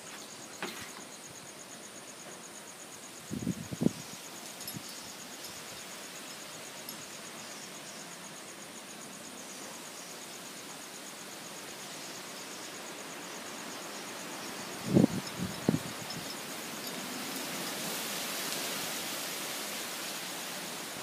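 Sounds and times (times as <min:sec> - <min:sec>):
insects trilling: 0:00.0 - 0:21.0
strong wind through trees: 0:00.0 - 0:21.0.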